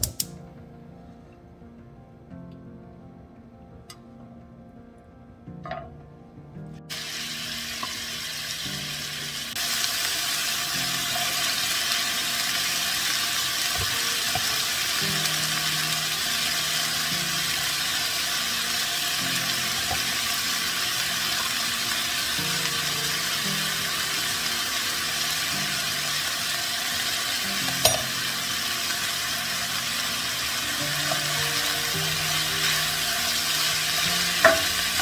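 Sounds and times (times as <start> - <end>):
steady hiss: 6.9 - 35.0.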